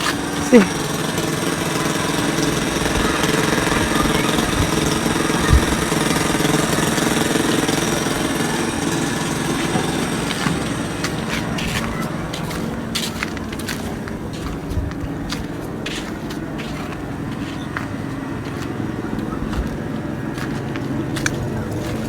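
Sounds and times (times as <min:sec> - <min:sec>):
water pump engine running: 0:00.0 - 0:22.0.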